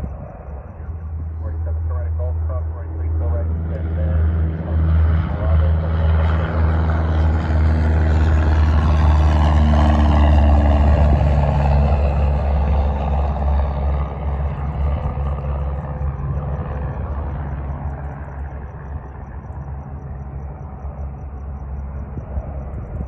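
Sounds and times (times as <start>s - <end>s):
aircraft engine rumble: 0.0s - 23.0s.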